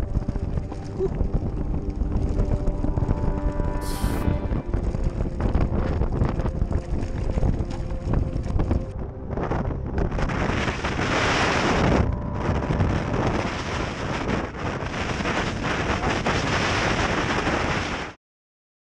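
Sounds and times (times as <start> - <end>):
wind buffeting microphone: 0.0 - 18.2.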